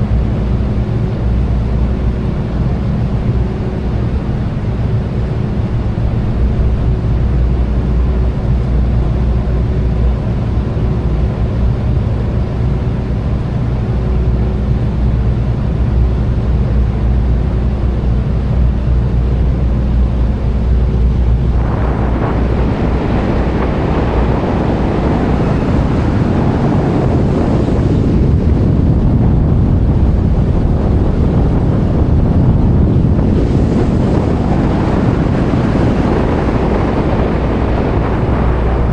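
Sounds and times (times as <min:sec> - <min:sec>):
boat engine droning: 0:00.0 - 0:38.9
wind and water rushing: 0:00.0 - 0:38.9.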